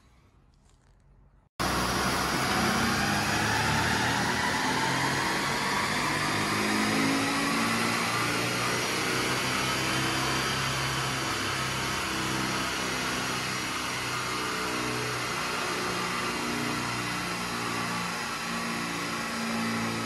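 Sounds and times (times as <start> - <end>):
car on dynamometer rushing noise: 1.6 - 20.0.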